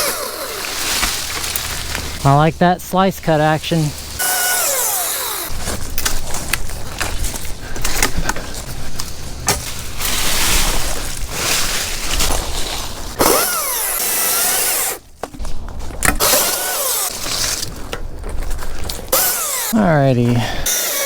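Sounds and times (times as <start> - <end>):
branches cracking and snapping: 0.0 - 2.4, 3.4 - 19.8
leafy brush rustling: 0.0 - 13.2, 15.4 - 20.7
chainsaw cutting branches: 0.0 - 15.1, 16.2 - 17.9, 18.6 - 21.0.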